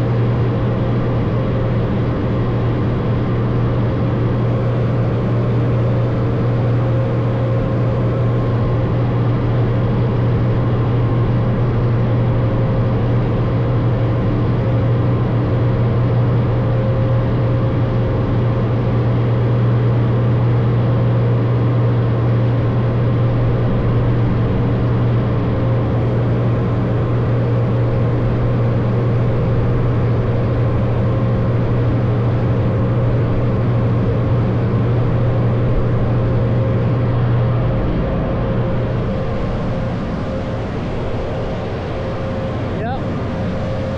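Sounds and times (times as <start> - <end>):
car wash machinery humming: 0.0 - 43.9.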